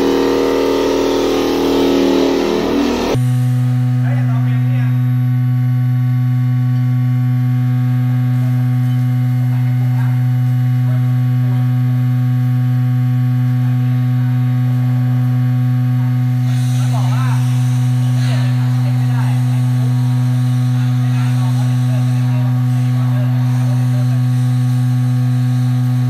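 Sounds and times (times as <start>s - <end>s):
machine low hum: 0.0s - 26.0s.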